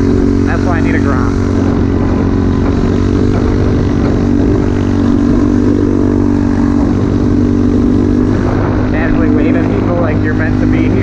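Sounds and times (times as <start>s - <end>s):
small motorbike engine cruising: 0.0s - 11.0s.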